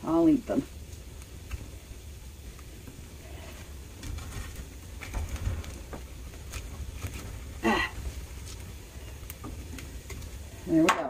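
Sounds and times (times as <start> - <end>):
low rumble of fire: 0.0 - 11.0
poker knocking burning logs: 0.8 - 11.0.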